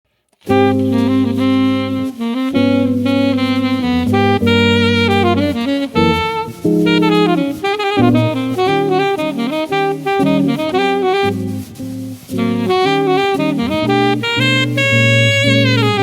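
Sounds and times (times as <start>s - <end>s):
saxophone melody: 0.4s - 16.0s
jazz trio playing: 0.5s - 16.0s.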